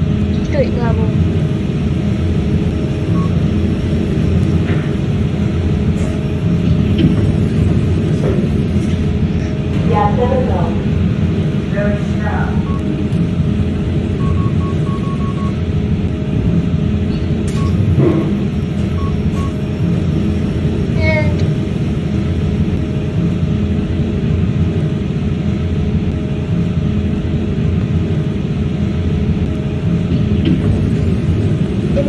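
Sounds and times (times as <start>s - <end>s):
elevator car rumbling: 0.0s - 32.0s.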